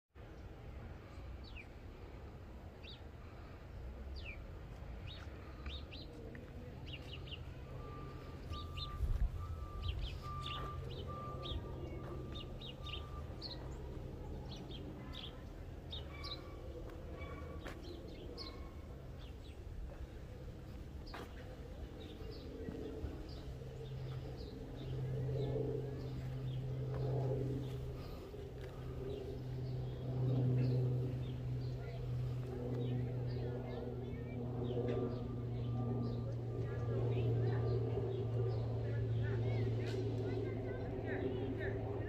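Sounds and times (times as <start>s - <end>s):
low background rumble: 0.2s - 42.0s
small birds chirping: 1.0s - 2.2s, 2.8s - 42.0s.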